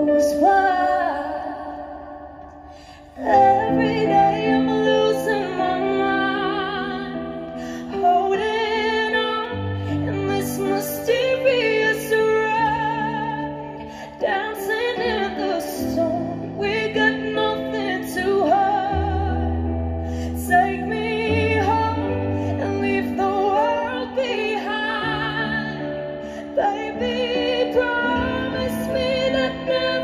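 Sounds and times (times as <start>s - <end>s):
woman singing with vibrato: 0.0s - 2.4s, 3.0s - 30.0s.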